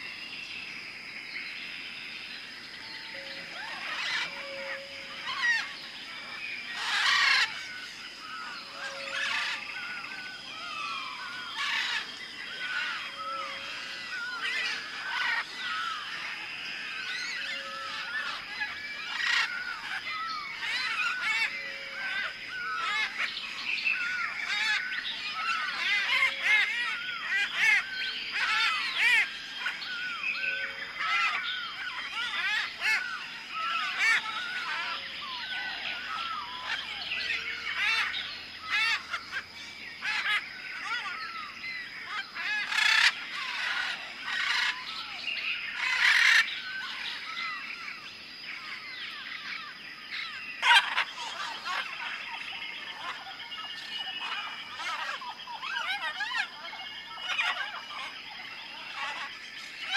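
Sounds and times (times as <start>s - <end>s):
birds chirping and calling: 0.0s - 59.9s
harsh bird calls: 1.2s - 59.9s.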